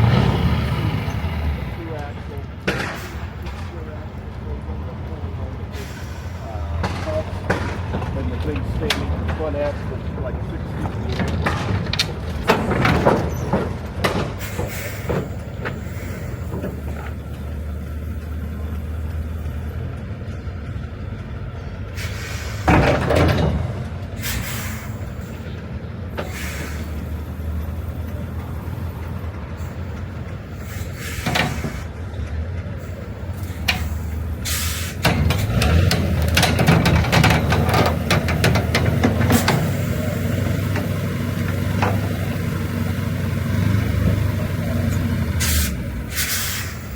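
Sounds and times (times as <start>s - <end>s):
truck engine running: 0.0s - 46.9s.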